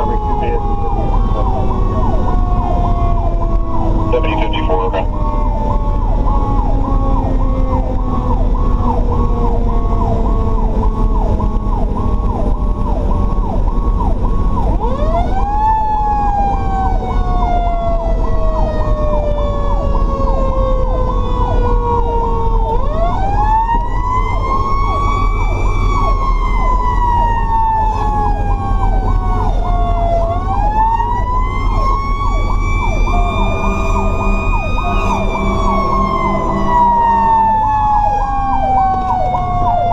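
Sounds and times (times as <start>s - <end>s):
electronic yelp siren: 0.0s - 39.9s
truck engine rumble: 0.0s - 39.9s.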